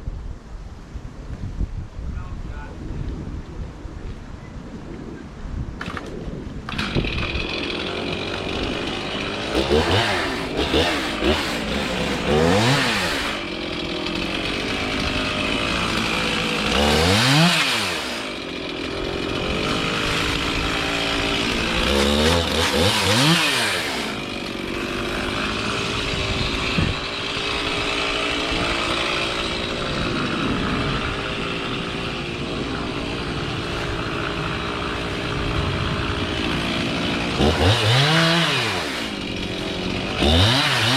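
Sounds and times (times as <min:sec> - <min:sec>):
chainsaw cutting tree: 0:05.8 - 0:40.9.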